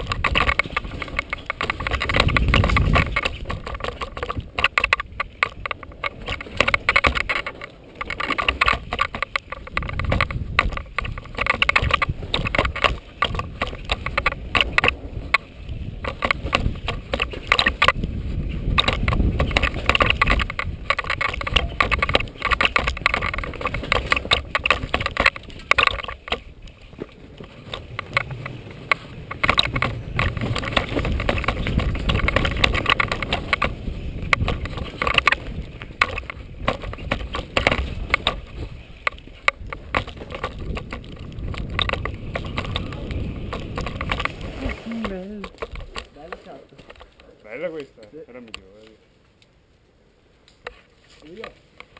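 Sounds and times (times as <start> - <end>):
chain and frame rattling: 0.0 - 47.3
bike tyre rumble on loose earth: 0.0 - 51.9.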